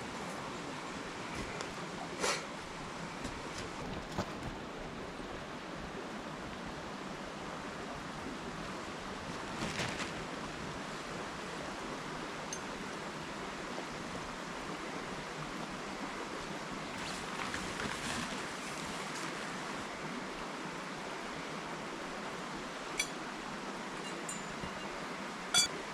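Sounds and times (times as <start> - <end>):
river flowing: 0.0 - 9.6, 10.2 - 25.9.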